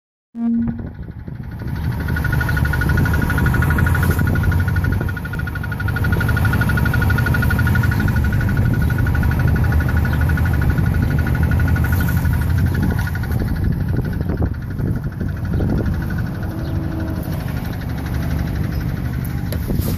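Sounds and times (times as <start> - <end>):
car engine running: 0.4 - 19.9
high-pitched engine rattle: 0.4 - 19.9.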